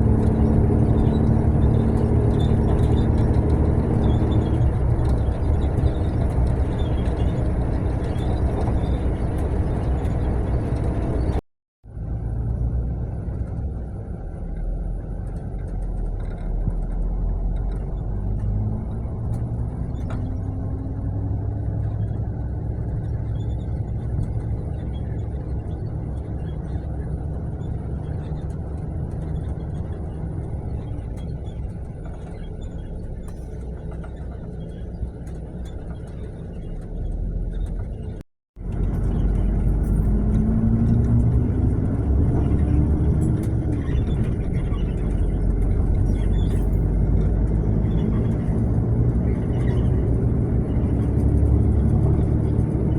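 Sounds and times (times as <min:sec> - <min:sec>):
coach engine and road rumble: 0:00.0 - 0:52.9.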